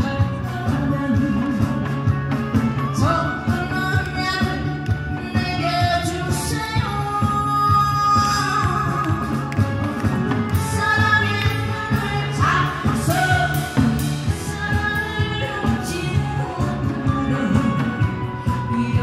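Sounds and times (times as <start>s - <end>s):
amplified music with drum beat: 0.0s - 19.0s
woman singing through speaker: 0.0s - 19.0s.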